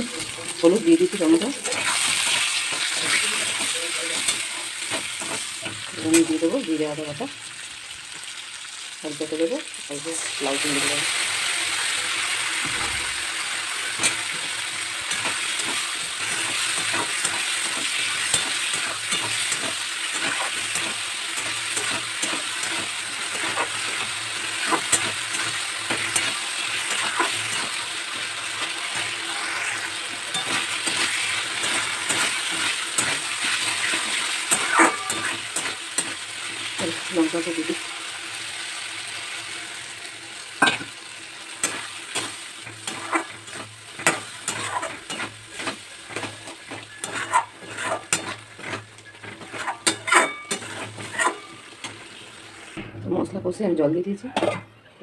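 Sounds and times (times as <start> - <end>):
spatula scraping a pan: 0.0 - 6.5, 10.7 - 39.8, 40.6 - 52.8
spices sizzling in hot oil: 0.0 - 52.8.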